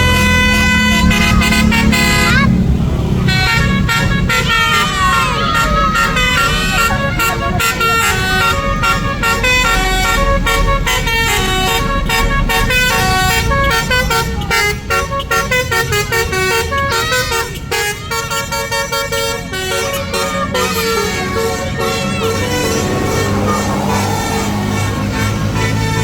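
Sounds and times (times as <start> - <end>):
musical bus horn melody: 0.0 - 26.0.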